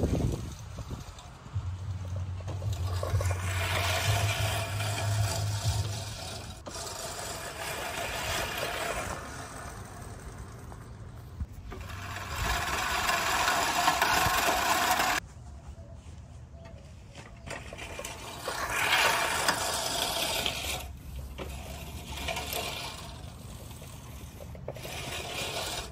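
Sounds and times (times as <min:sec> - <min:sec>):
reel mower whirring: 0:00.0 - 0:15.2, 0:16.9 - 0:25.9.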